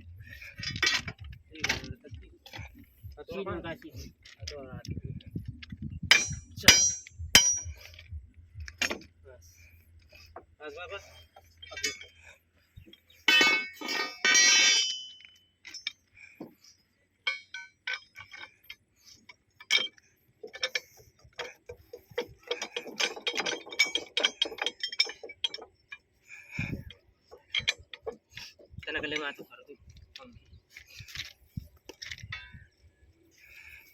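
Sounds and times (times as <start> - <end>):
metal tools clanking: 0.2 - 33.9.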